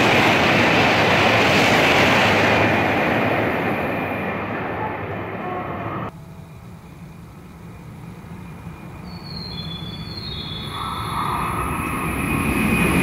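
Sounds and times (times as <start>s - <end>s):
high-speed train rushing: 0.0s - 13.0s.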